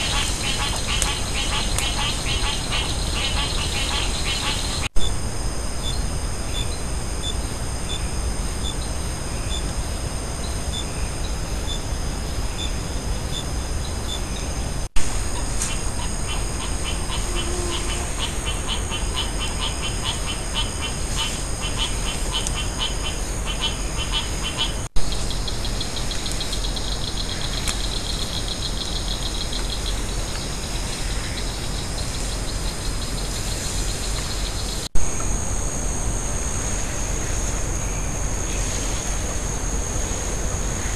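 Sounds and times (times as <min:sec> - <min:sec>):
constant hiss: 0:00.0 - 0:40.9
insects buzzing: 0:00.0 - 0:40.9
insects chirping: 0:00.0 - 0:40.9.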